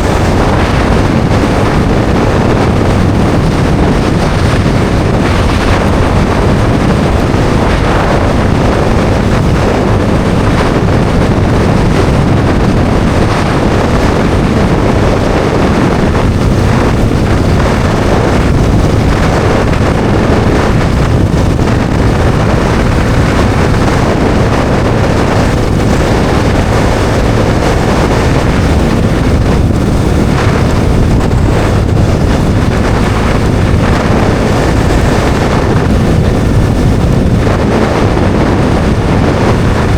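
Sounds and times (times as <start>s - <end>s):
motorcycle engine running steadily: 0.0s - 39.9s
wind rush on microphone: 0.0s - 39.9s.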